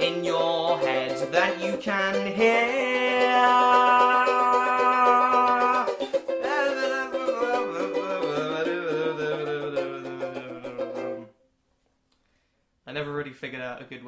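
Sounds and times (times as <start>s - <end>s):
man singing: 0.0s - 11.3s
ukulele strumming: 0.0s - 11.4s.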